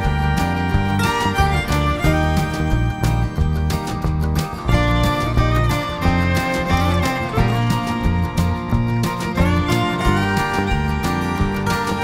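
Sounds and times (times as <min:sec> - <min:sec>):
upbeat country tune with fiddle: 0:00.0 - 0:12.0.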